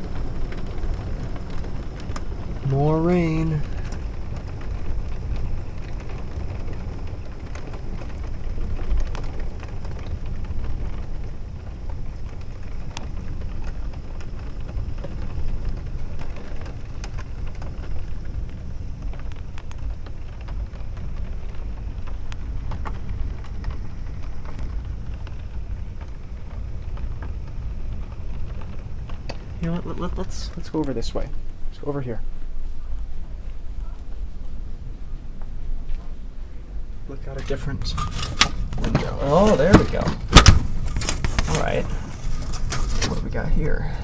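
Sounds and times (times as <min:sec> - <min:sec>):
low rumble: 0:00.0 - 0:44.0
rain falling: 0:00.0 - 0:44.0
raindrop ticks: 0:00.0 - 0:44.0.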